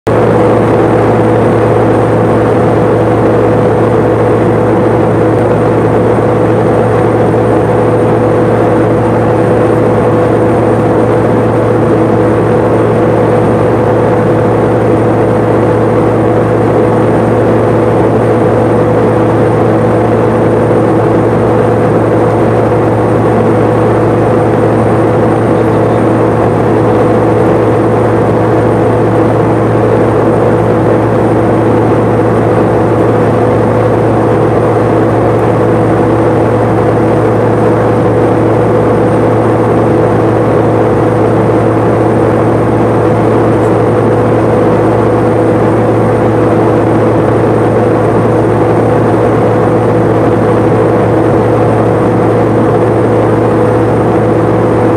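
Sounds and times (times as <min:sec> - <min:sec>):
turboprop engine drone in cabin: 0:00.0 - 0:54.9.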